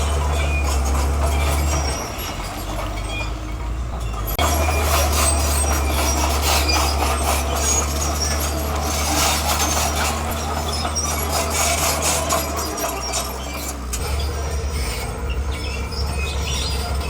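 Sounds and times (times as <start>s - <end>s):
bulldozer engine drone: 0.0s - 17.0s
steel tracks scraping and squeaking: 0.0s - 17.0s.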